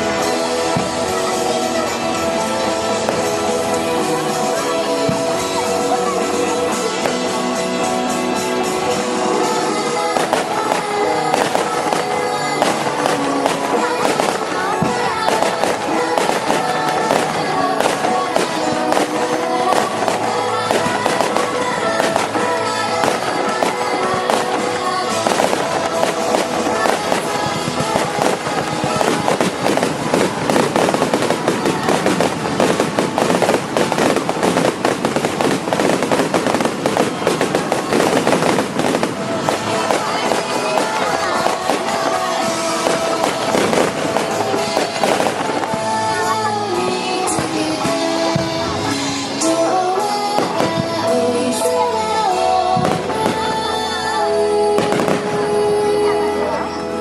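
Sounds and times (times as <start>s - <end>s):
fireworks bursting and crackling: 0.0s - 57.0s
music with sustained melodic notes: 0.0s - 57.0s.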